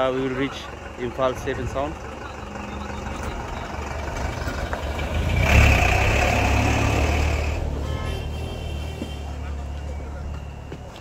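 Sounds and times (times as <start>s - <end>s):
minibus engine passing by: 0.0s - 11.0s.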